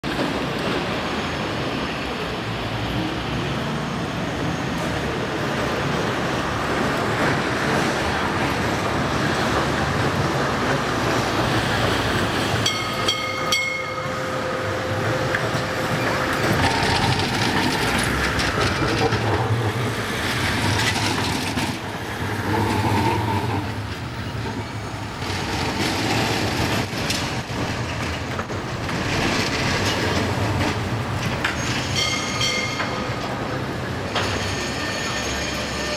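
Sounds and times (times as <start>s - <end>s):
tram wheels rumbling on rails: 0.0s - 35.9s.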